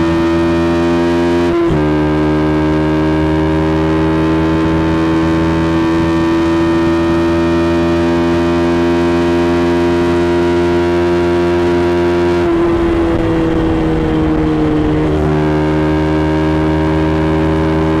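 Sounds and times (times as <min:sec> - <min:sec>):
motorcycle engine revving high: 0:00.0 - 0:18.0.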